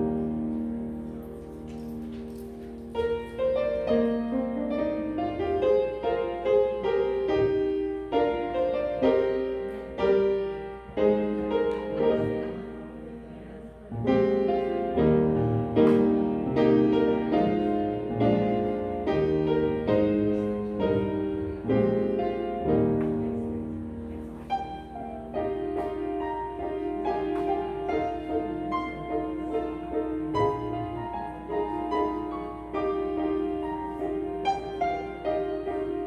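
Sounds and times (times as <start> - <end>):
slow solo piano: 0.0 - 36.0.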